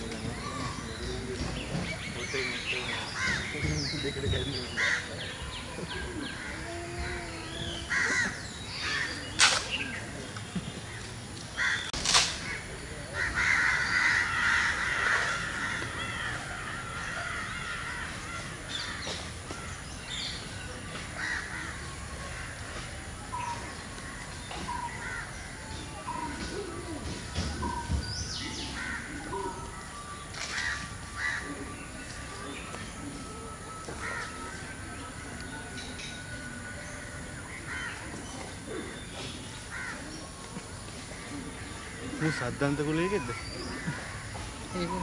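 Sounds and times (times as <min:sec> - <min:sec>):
birds calling: 0:00.0 - 0:45.0.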